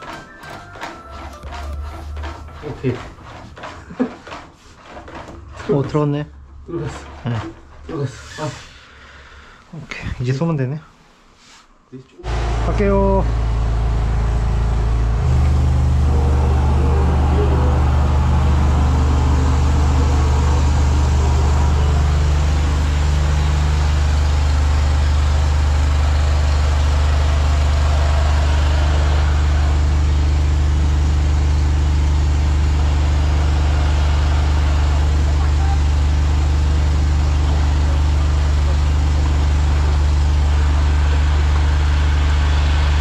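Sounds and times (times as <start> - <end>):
drain jetter engine droning: 0.0 - 8.5, 12.2 - 43.0.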